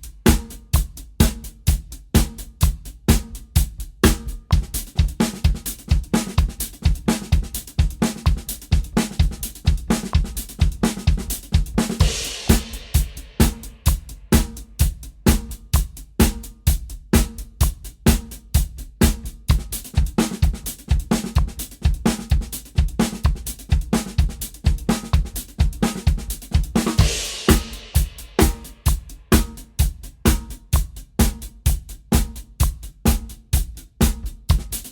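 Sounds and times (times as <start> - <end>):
drum kit playing fast groove: 0.0 - 34.9.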